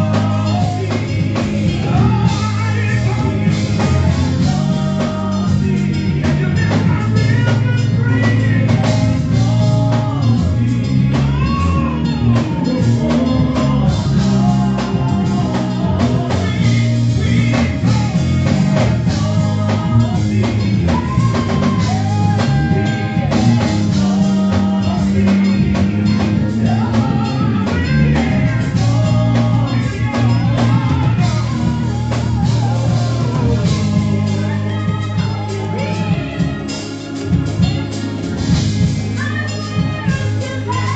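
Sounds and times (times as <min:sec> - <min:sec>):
band with drums and guitar: 0:00.0 - 0:40.9
person singing: 0:00.0 - 0:40.9.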